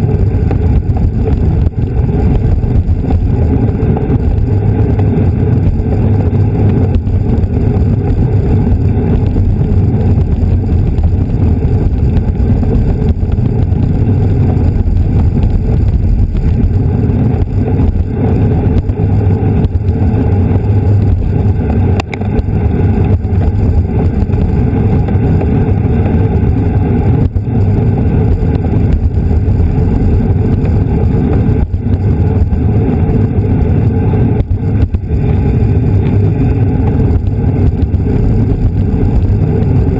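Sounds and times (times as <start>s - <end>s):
tyre and road rumble: 0.0s - 39.9s
wind buffeting microphone: 0.0s - 39.9s.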